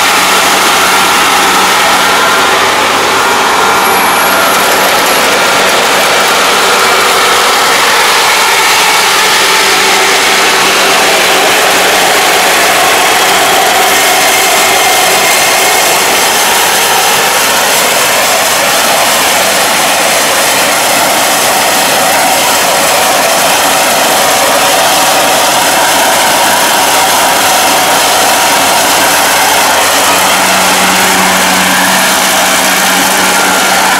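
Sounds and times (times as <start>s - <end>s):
combine harvester mechanical din: 0.0s - 33.9s.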